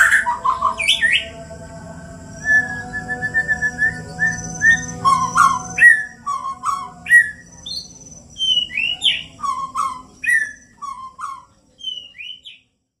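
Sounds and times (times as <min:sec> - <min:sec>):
bird singing whistled notes: 0:02.2 - 0:12.7.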